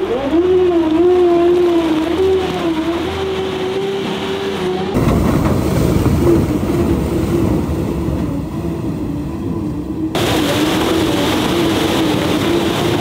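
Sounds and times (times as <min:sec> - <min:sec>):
engine and drivetrain whine: 0:00.0 - 0:13.0
tyres churning mud and water: 0:00.0 - 0:13.0.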